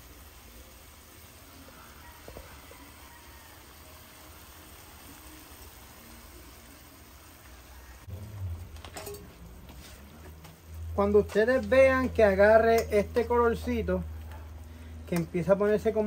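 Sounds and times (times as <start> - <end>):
pot simmering with small pops: 0.0 - 3.7, 5.0 - 16.0.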